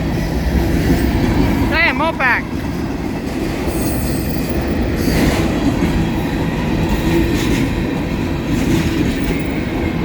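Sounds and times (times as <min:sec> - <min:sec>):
train wheels rumbling on rail: 0:00.0 - 0:10.0
wheels clacking over rail joints: 0:00.0 - 0:10.0.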